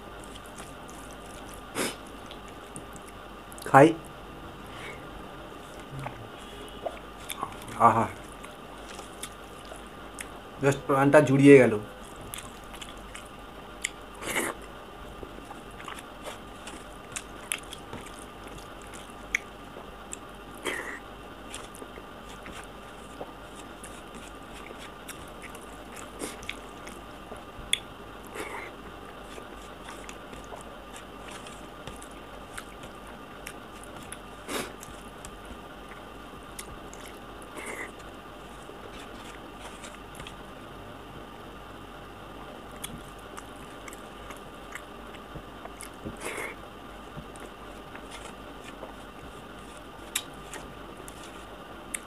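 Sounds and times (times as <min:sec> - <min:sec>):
chewing and lip smacks: 0:00.2 - 0:03.7, 0:06.8 - 0:10.4, 0:12.0 - 0:40.4, 0:42.7 - 0:46.6, 0:47.2 - 0:52.0.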